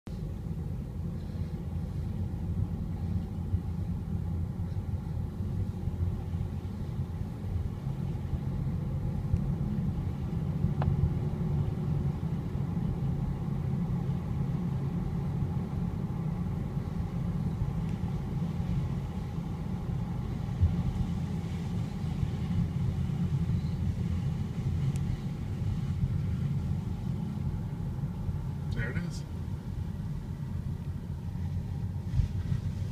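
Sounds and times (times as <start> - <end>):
car road and engine noise: 0.0 - 32.9.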